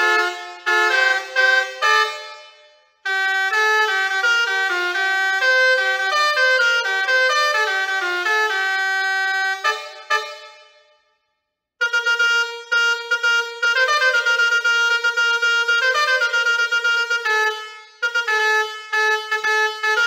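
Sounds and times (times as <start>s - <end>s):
musical air horn playing melody: 0.0s - 10.9s, 11.8s - 20.0s.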